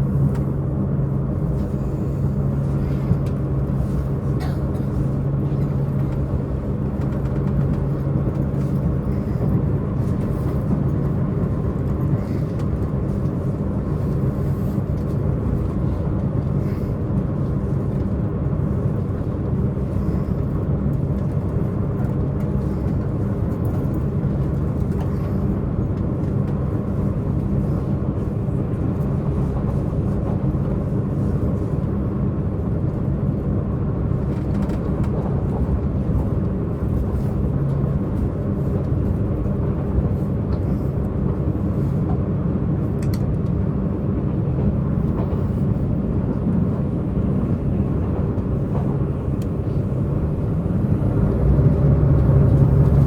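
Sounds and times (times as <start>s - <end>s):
train diesel engine running: 0.0s - 53.0s
wheels rumbling on rails: 0.0s - 53.0s.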